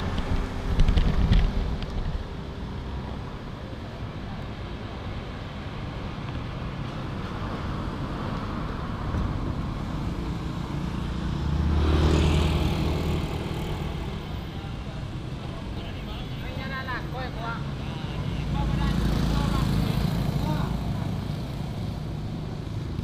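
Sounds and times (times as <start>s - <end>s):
road traffic rumbling: 0.0s - 23.0s.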